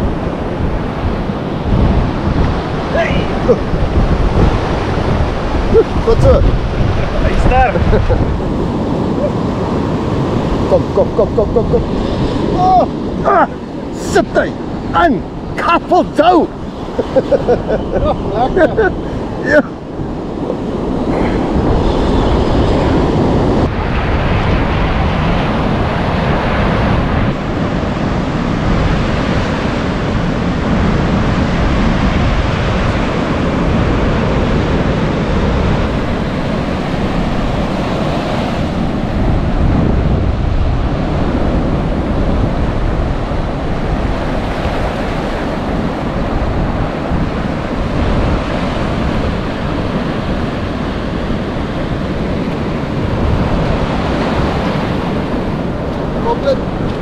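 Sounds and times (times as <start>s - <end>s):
ocean surf washing ashore: 0.0s - 57.0s
wind noise on microphone: 0.0s - 57.0s.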